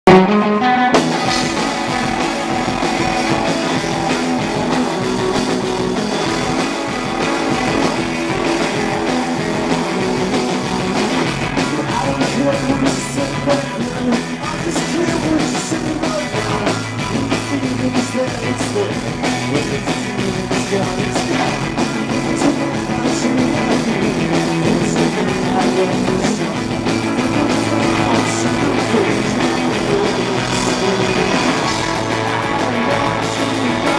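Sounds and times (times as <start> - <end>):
bass guitar: 0.0 - 33.9
electric guitar: 0.0 - 33.9
drum kit: 0.1 - 33.9
man singing: 0.1 - 33.9.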